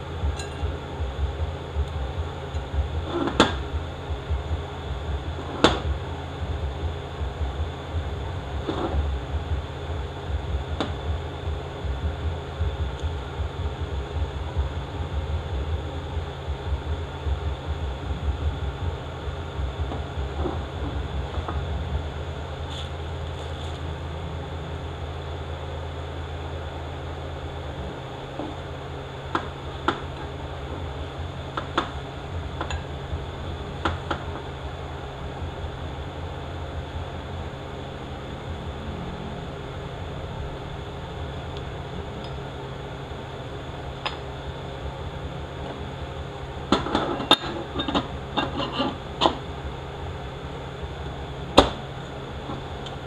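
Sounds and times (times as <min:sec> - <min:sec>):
low workshop hum: 0:00.0 - 0:53.0.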